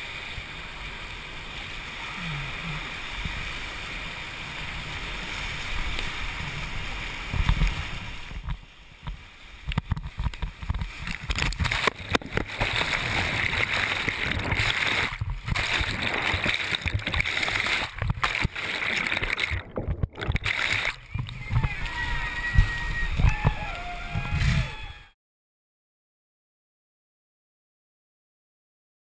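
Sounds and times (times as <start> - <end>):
churning water underwater: 0.0 - 25.0
whitewater rushing: 0.0 - 25.0.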